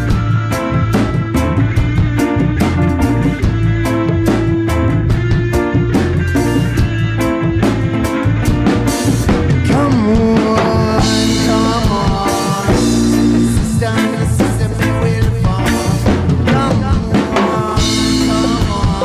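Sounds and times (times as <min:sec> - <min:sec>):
reggae band playing: 0:00.0 - 0:19.0
sliding lead guitar line: 0:00.0 - 0:19.0.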